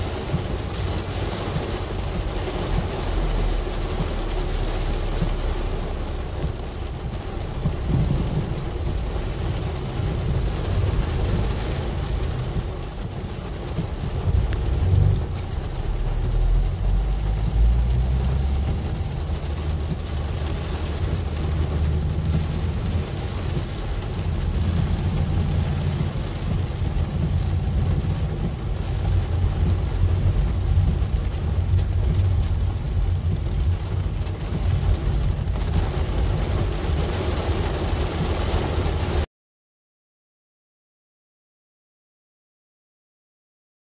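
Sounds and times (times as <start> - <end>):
car rumbling on wet road: 0.0 - 39.3
heavy rain on a car: 0.0 - 39.3.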